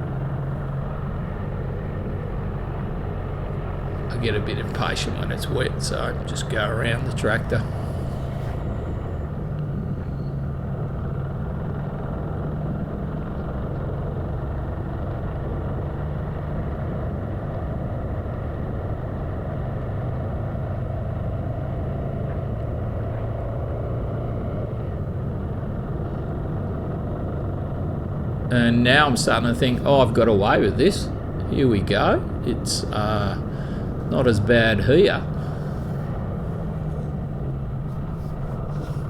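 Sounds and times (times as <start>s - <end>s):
motorcycle engine running evenly: 0.0s - 39.0s.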